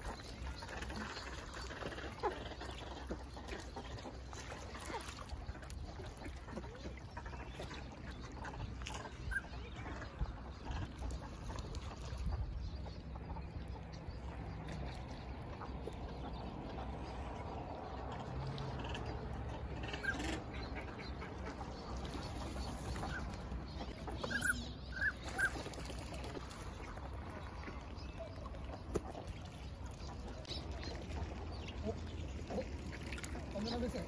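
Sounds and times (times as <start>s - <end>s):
ducks calling: 0.0s - 14.5s, 15.5s - 34.0s.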